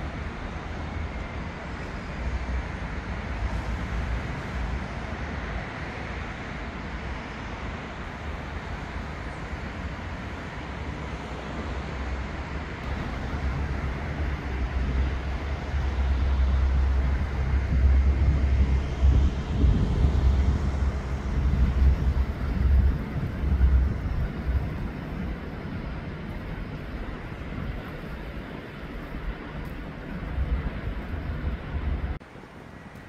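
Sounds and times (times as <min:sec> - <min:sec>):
city street traffic rumble: 0:00.0 - 0:33.0
wind buffeting microphone: 0:00.0 - 0:33.0.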